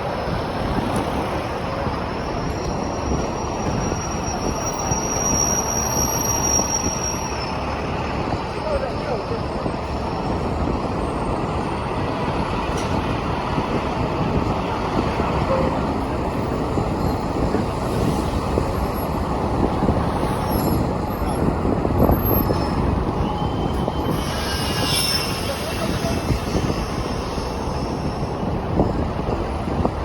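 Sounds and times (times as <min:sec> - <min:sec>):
city street traffic rumble: 0:00.0 - 0:30.0.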